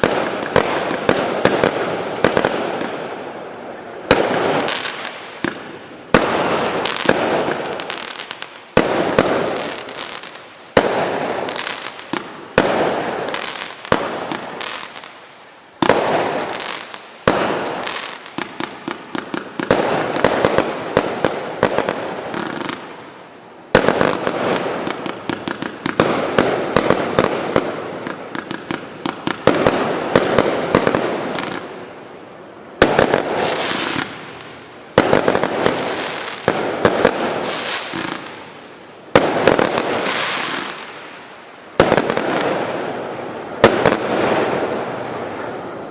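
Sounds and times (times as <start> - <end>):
rapid fireworks popping: 0.0 - 3.1, 4.0 - 15.1, 15.8 - 23.0, 23.7 - 31.8, 32.8 - 41.0
fireworks bursts and crackle: 0.0 - 45.9.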